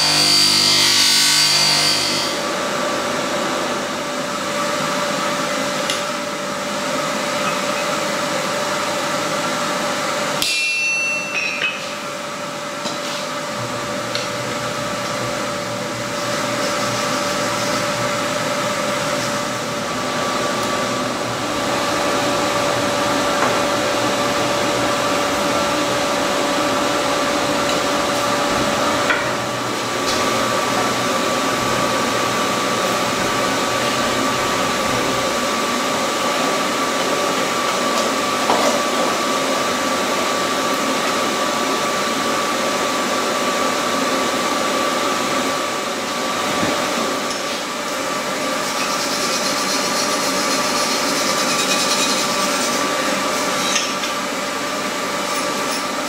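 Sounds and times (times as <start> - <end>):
forge air blower whooshing: 1.5 - 56.0.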